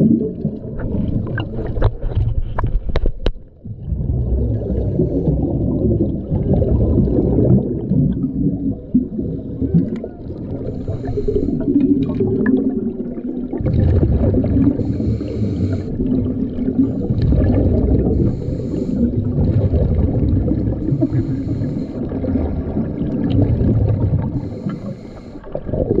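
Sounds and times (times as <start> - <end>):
churning water rumble: 0.0 - 26.0
underwater bubbles hissing and gurgling: 0.0 - 26.0.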